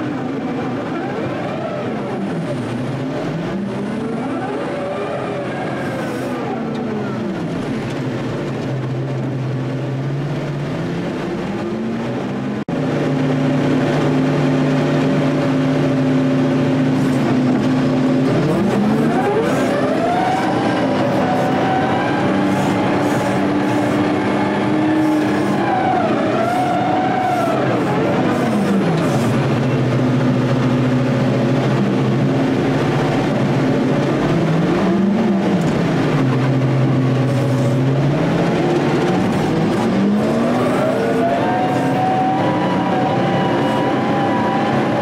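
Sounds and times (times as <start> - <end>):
heavy equipment engine revving: 0.0 - 45.0.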